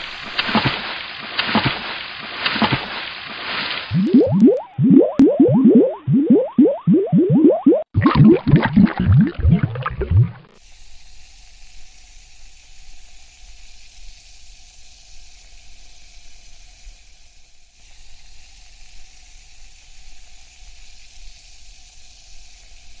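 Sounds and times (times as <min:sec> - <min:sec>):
carbonated water fizzing: 0:00.0 - 0:23.0.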